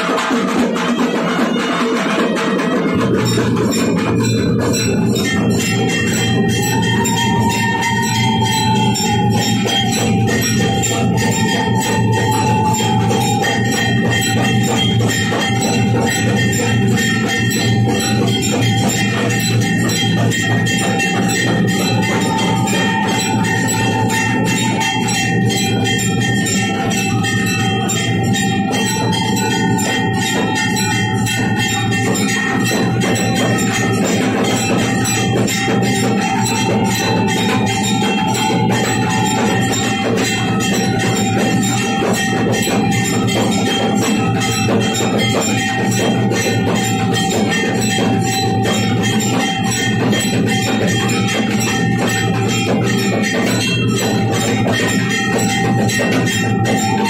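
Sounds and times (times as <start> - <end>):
fast drumming: 0.0 - 57.0
ringing bells: 0.0 - 57.0
long held high tone: 1.0 - 57.0.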